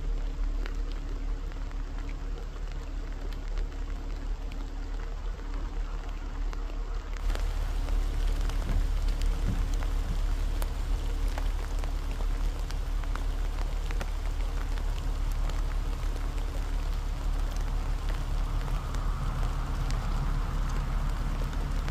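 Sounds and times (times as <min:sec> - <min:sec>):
deep outdoor rumble: 0:00.0 - 0:21.9
faint ticks: 0:00.0 - 0:21.9.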